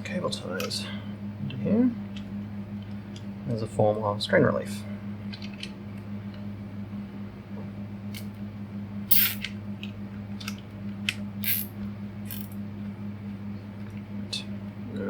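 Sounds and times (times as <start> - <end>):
desk fan humming: 0.0 - 15.0.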